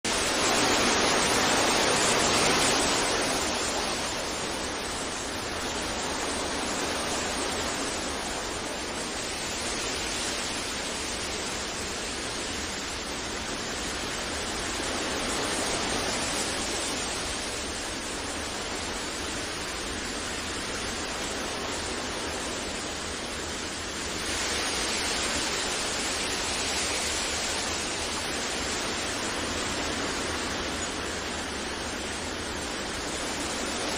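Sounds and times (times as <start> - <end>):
wind blowing: 0.0 - 33.9.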